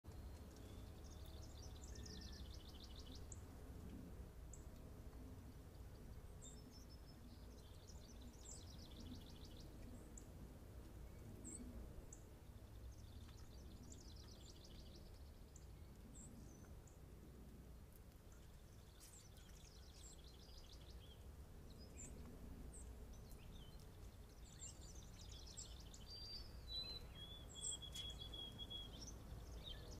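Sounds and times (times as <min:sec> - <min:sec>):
faint birdsong: 0:00.1 - 0:30.0
low background rumble: 0:00.1 - 0:30.0.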